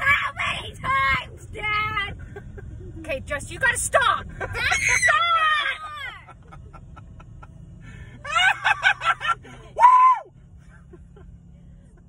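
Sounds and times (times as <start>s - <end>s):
low car hum: 0.0s - 12.0s.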